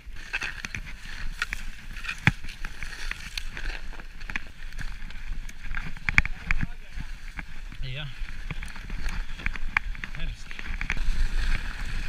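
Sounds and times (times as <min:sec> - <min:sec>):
bike clicks and rattles: 0:00.0 - 0:12.0.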